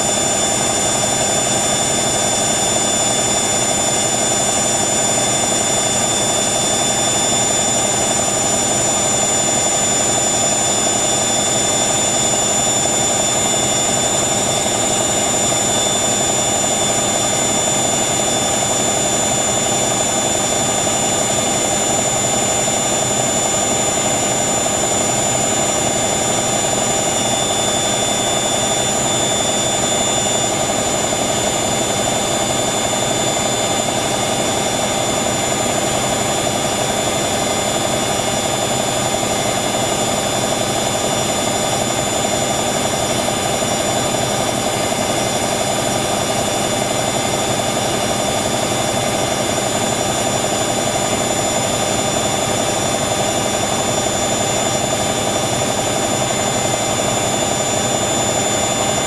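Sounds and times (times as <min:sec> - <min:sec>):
washer dryer drum spinning: 0:00.0 - 0:59.0.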